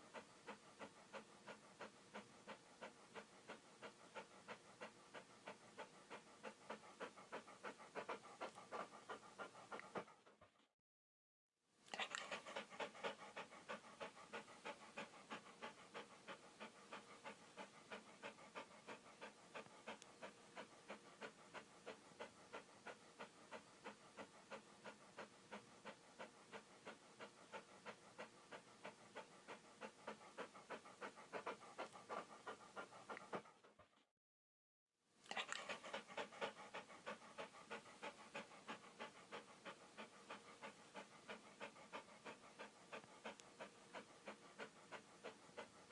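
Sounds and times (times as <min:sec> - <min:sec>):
dog panting: 0:00.0 - 0:10.7, 0:11.9 - 0:34.1, 0:35.3 - 0:45.9.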